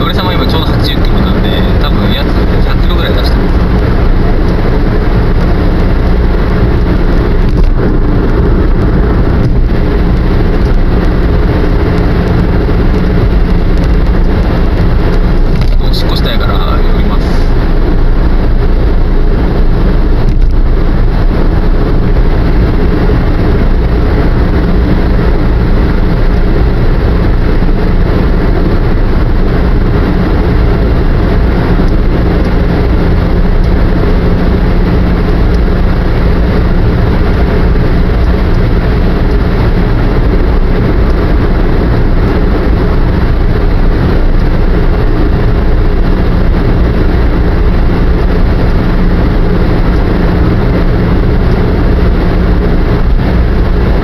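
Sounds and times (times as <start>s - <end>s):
low engine hum: 0.0s - 54.0s
tyre and road noise: 0.0s - 54.0s.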